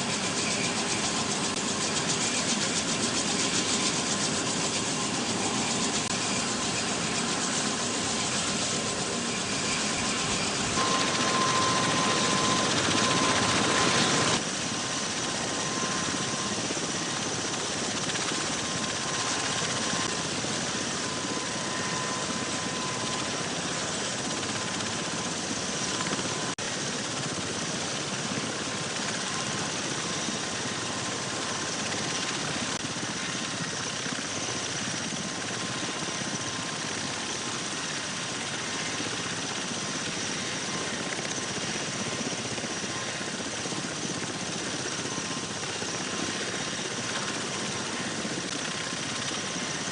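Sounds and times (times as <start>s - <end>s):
aircraft engines roaring with whine: 0.0s - 49.9s.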